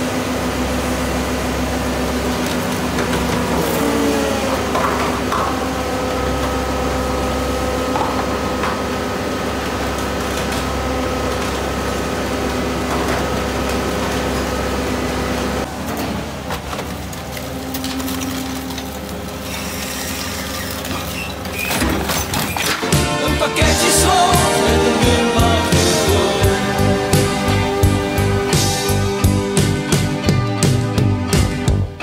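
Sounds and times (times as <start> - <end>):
diesel engine and hydraulic hum: 0.0 - 30.2.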